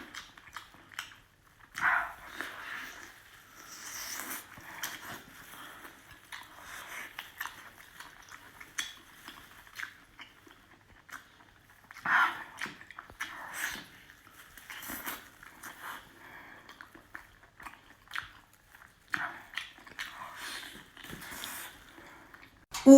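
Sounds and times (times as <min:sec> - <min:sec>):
person chewing: 0:00.0 - 0:22.6.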